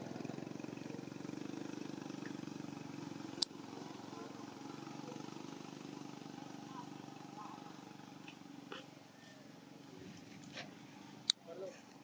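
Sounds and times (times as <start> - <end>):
engine running with fast pulse: 0.0 - 12.0.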